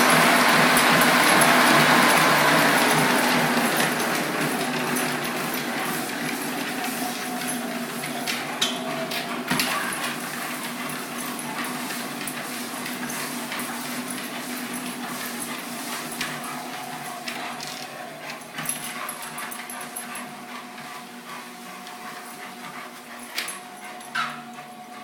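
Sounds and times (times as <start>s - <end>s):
treadmill motor and belt humming: 0.0s - 25.0s.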